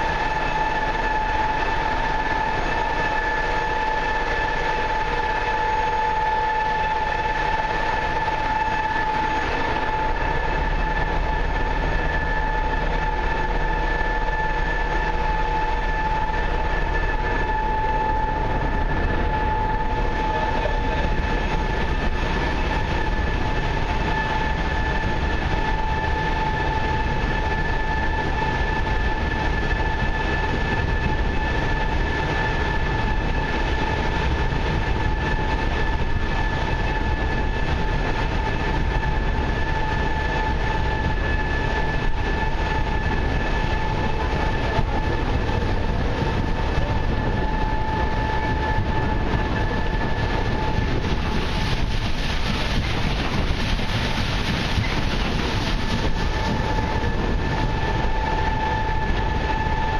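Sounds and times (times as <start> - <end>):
paddle steamer engine rumble: 0.0 - 59.9
water rushing along hull: 0.0 - 59.9.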